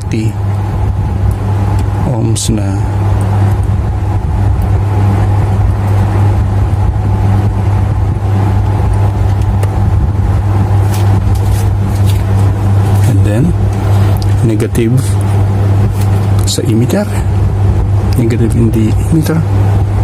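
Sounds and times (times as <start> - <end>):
loud low hum: 0.0 - 20.0.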